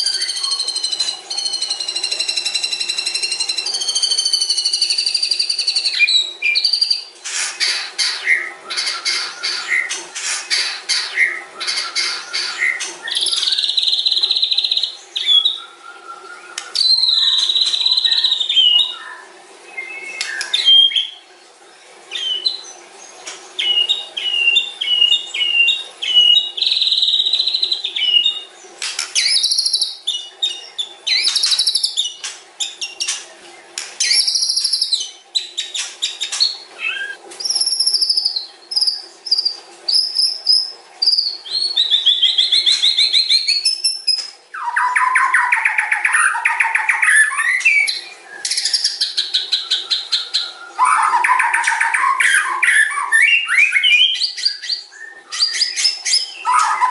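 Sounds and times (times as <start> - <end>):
songbird singing varied song: 0.0 - 7.1, 8.0 - 21.2, 29.2 - 33.2, 33.8 - 56.9.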